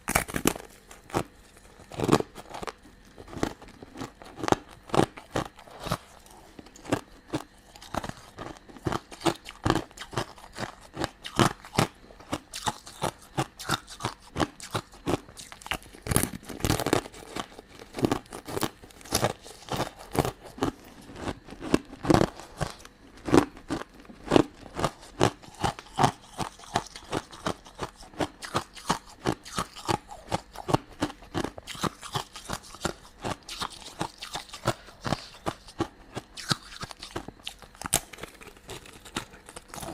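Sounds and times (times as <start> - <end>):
crunchy sweets being chewed: 0.0 - 39.9.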